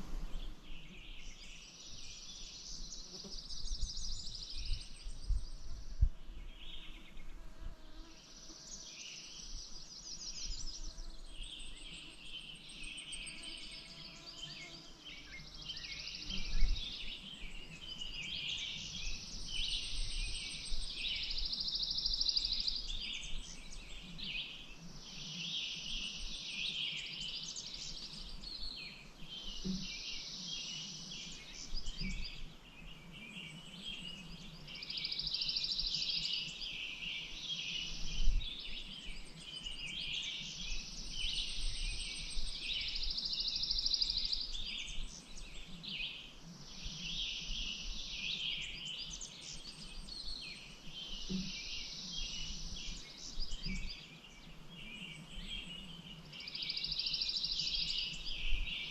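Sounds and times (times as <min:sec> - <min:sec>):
wild birds singing: 0:00.0 - 0:58.9.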